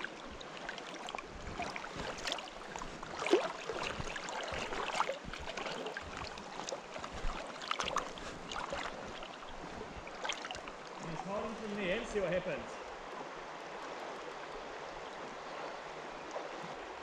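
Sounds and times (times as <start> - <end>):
person wading through water: 0.0 - 17.0
water sloshing and splashing: 0.0 - 17.0.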